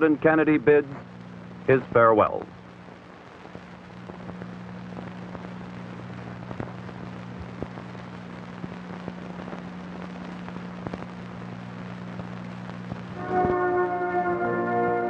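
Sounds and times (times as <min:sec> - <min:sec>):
crackles and pops: 0:00.0 - 0:14.4
low hum: 0:00.0 - 0:15.0.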